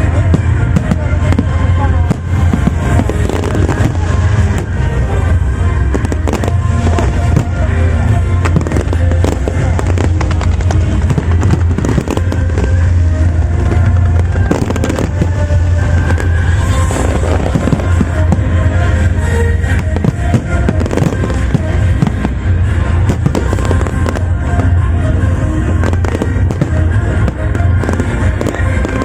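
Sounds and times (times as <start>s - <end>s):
fireworks crackling and popping: 0.0s - 29.0s
music playing: 0.0s - 29.0s.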